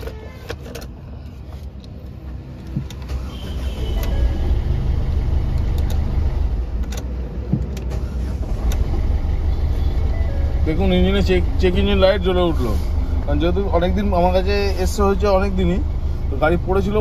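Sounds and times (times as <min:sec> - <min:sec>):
diesel engine starting and rumbling: 0:00.0 - 0:17.0.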